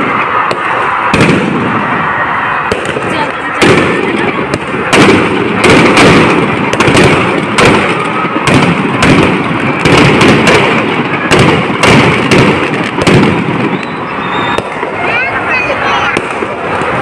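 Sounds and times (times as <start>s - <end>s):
firecrackers bursting: 0.0s - 17.0s.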